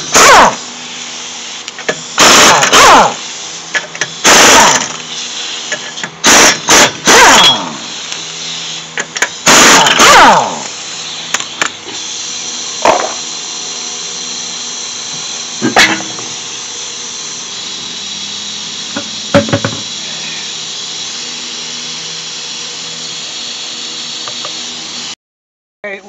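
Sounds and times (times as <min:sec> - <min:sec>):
mechanical hum with high whine: 0:00.0 - 0:25.2.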